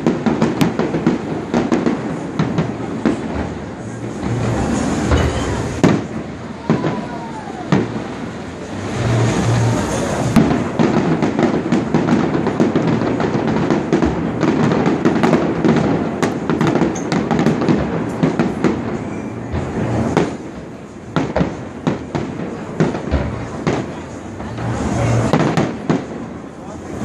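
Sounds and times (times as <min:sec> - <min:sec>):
fireworks bangs: 0:00.0 - 0:27.0
fireworks bursting and crackling: 0:00.0 - 0:27.0.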